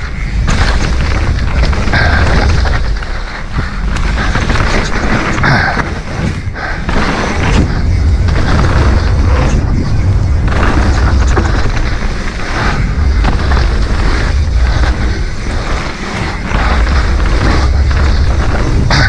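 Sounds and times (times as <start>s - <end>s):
bike tyre rumble on dirt: 0.0s - 19.0s
wind buffeting microphone: 0.0s - 19.0s.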